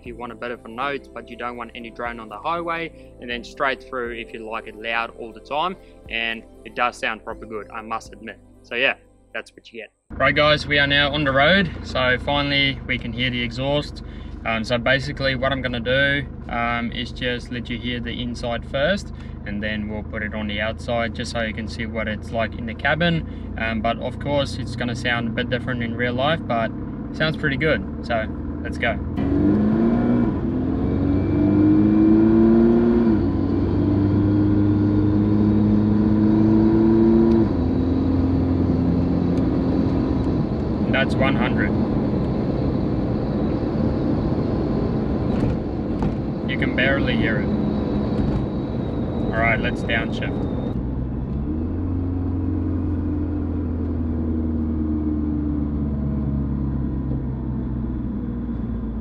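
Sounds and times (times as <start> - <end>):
diesel engine accelerating: 0.0 - 8.0, 10.0 - 59.0.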